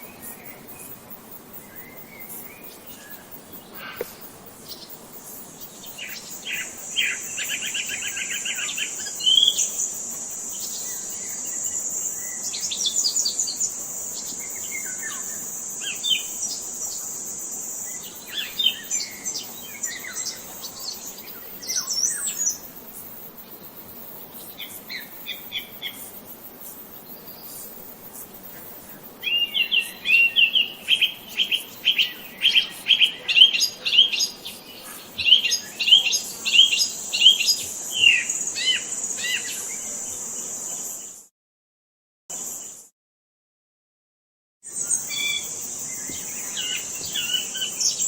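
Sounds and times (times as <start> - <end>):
songbirds chirping: 0.0 - 41.2, 44.8 - 48.0.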